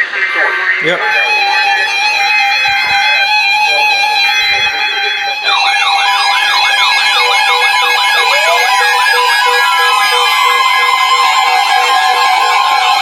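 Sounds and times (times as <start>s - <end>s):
yelping siren: 0.0s - 13.0s
falling and rising siren glide: 1.0s - 13.0s.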